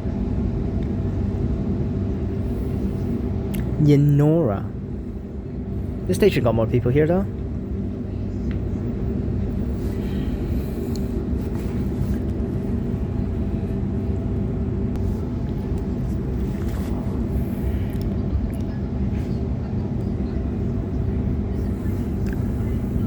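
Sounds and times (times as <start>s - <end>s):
train rumble with low hum: 0.0s - 23.0s.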